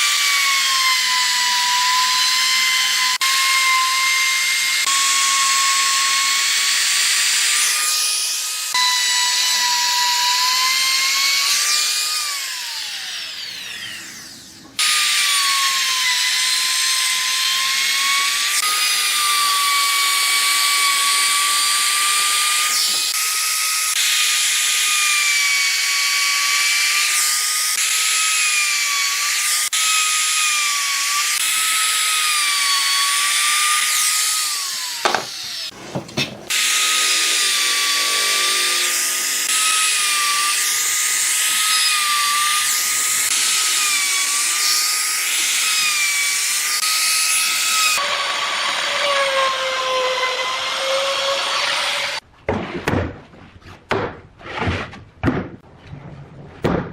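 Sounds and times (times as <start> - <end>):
electric power tool motor whine: 0.0 - 7.6, 8.3 - 52.2.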